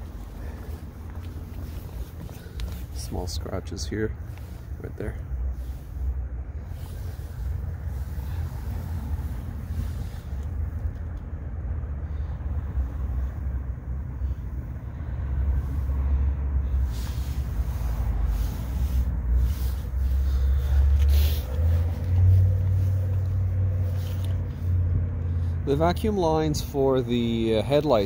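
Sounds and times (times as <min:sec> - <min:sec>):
low uneven rumble: 0:00.0 - 0:28.0.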